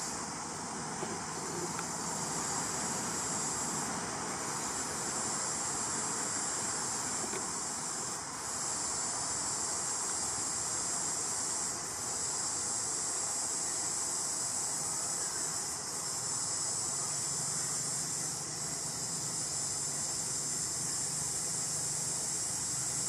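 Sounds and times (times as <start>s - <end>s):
background hiss: 0.0s - 23.0s
high-pitched insect drone: 0.0s - 23.0s.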